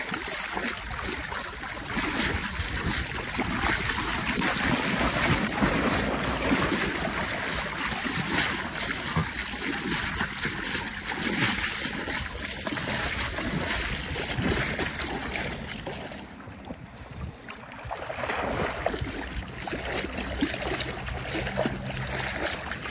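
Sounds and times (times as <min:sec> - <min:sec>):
lake water sloshing from wading: 0:00.0 - 0:22.9.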